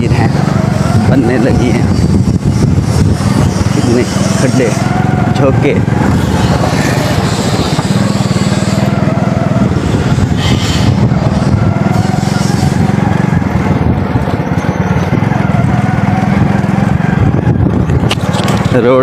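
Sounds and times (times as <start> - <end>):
small motorcycle engine running: 0.0 - 19.0
wind noise on microphone: 0.0 - 19.0.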